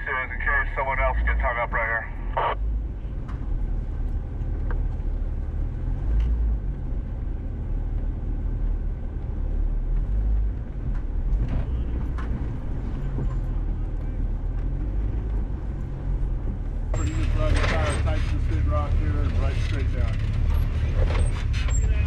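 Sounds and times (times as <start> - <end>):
vehicle engine rumbling low: 0.0 - 22.0.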